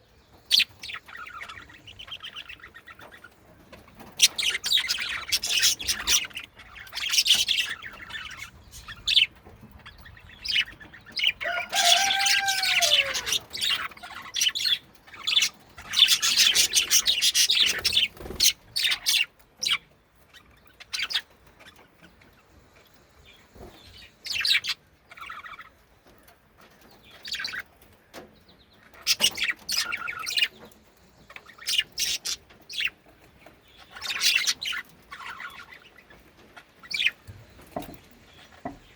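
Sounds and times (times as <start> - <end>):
budgies chirping and chattering: 0.0 - 38.9.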